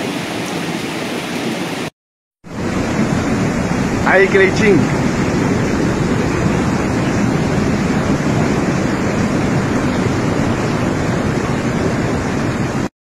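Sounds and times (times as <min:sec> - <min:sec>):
floodwater rushing down street: 0:00.0 - 0:01.9, 0:02.5 - 0:12.9
heavy rain: 0:00.0 - 0:01.9, 0:02.5 - 0:12.9.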